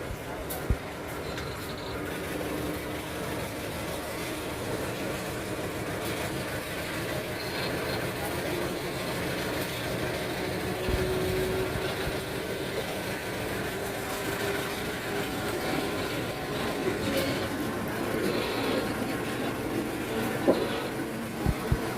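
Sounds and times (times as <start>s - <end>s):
diesel locomotive engine under load: 0.0s - 21.9s
train wheels rolling: 0.0s - 21.9s.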